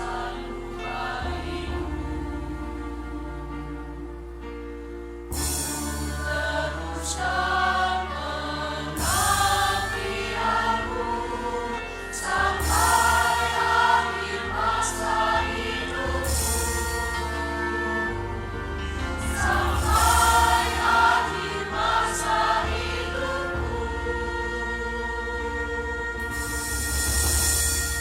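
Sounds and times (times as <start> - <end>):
choir singing: 0.0 - 4.7, 5.3 - 28.0
orchestral accompaniment: 0.0 - 28.0.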